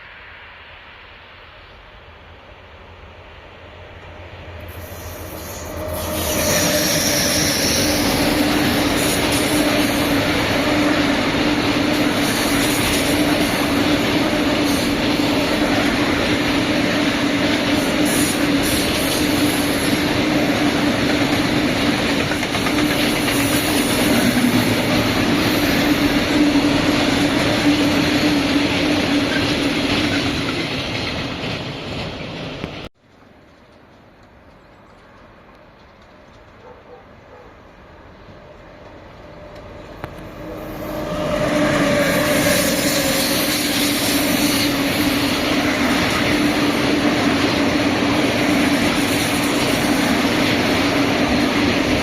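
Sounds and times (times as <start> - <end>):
train passing: 0.0 - 52.0.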